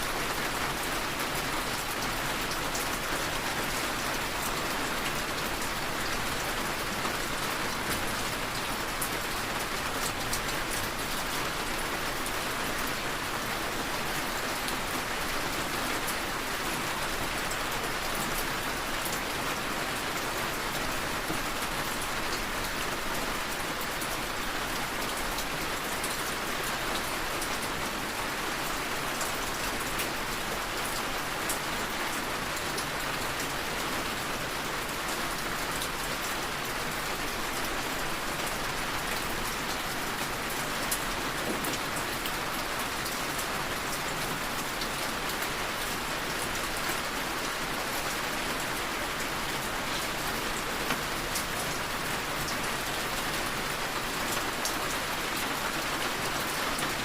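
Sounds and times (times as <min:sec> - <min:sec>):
rain tapping on a window: 0:00.1 - 0:57.0.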